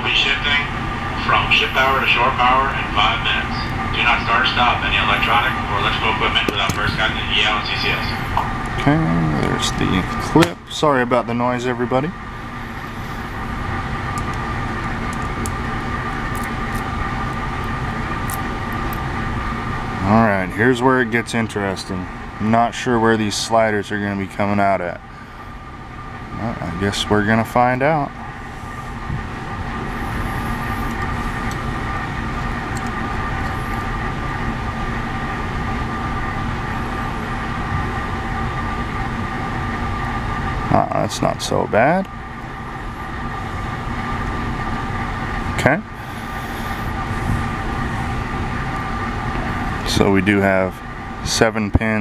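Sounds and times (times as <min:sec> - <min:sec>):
rushing ventilation noise: 0:00.0 - 0:52.0
ship machinery drone: 0:00.0 - 0:52.0.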